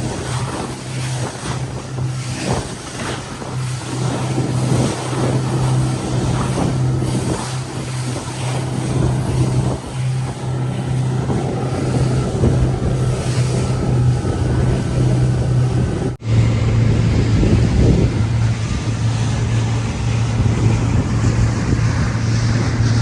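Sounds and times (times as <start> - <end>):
outboard motor running: 0.0 - 23.0
wind and water rushing: 0.0 - 23.0.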